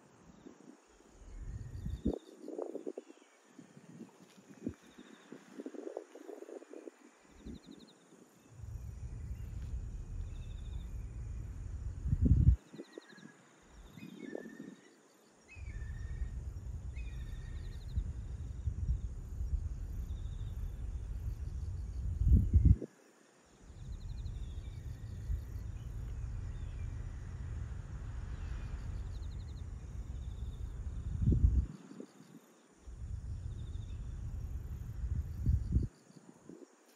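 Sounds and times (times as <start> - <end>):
high chirps of birds or insects: 0.0 - 36.9
wind buffeting microphone: 0.4 - 7.8, 8.5 - 14.8, 15.5 - 22.9, 23.6 - 32.1, 32.8 - 36.7.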